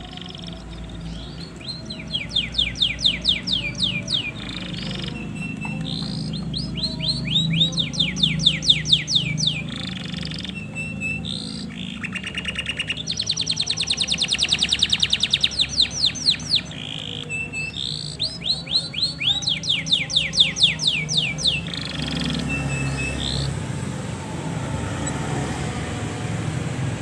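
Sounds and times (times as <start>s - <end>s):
canary singing: 0.0s - 27.0s.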